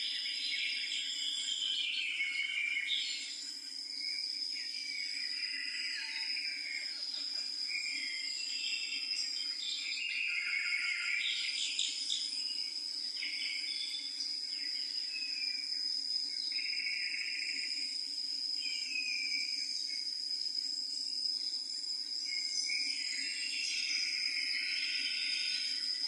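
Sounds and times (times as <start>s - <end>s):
birds singing: 0.0s - 17.7s, 22.3s - 26.0s
insects trilling: 0.0s - 26.0s.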